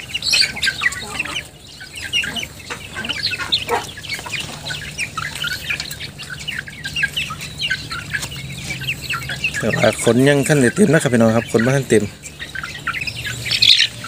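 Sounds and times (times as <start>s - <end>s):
chicks calling: 0.0s - 14.0s.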